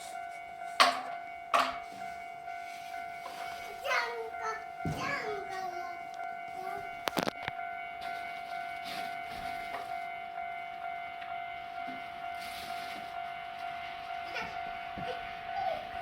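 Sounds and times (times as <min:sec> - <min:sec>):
level-crossing warning bell: 0:00.0 - 0:16.0.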